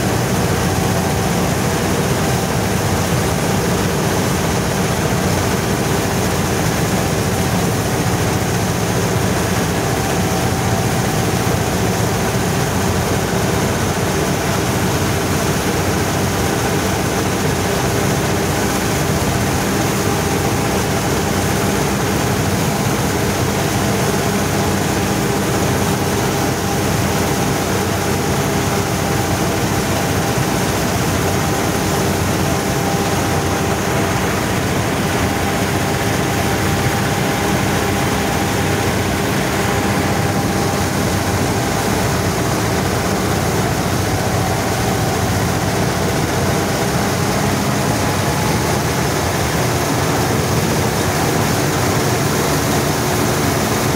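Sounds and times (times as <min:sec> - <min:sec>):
combine harvester machine din: 0:00.0 - 0:53.9
tractor diesel engine under load: 0:00.0 - 0:53.9.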